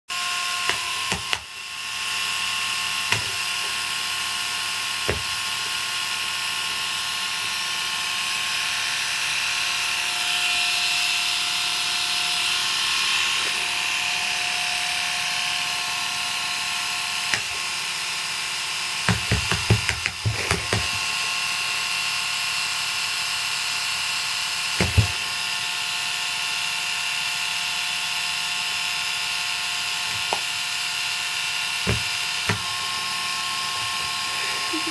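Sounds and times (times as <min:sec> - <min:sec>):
electric shaver buzzing: 0:00.1 - 0:34.9.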